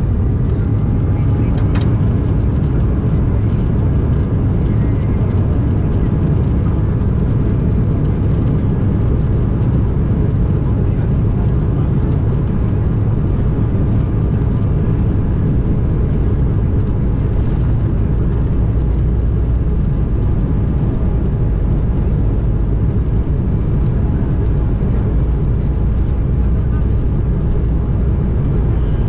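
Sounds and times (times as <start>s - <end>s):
airliner cabin engine rumble: 0.0s - 29.0s.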